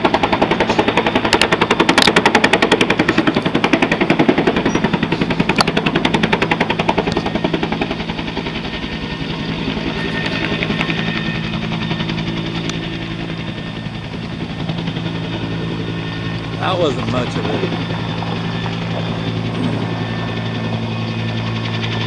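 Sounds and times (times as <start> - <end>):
helicopter engine hum: 0.0 - 22.0
helicopter rotor chopping: 0.0 - 22.0.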